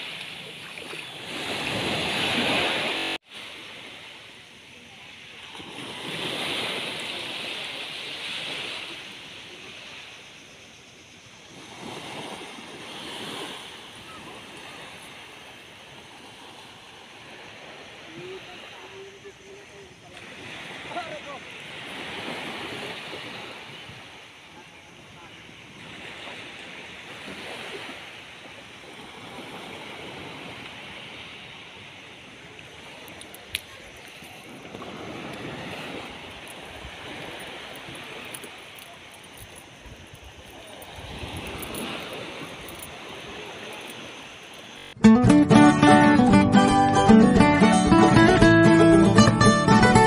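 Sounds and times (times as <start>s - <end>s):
sea waves breaking on beach: 0.0s - 45.0s.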